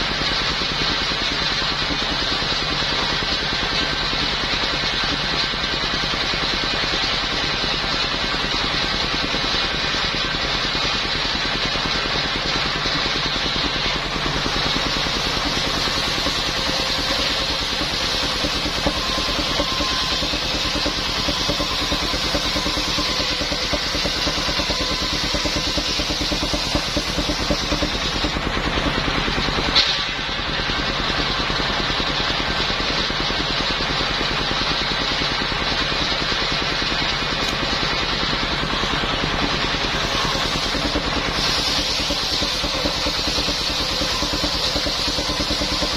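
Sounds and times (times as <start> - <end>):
engine-driven circular saw cutting wood: 0.0 - 45.9.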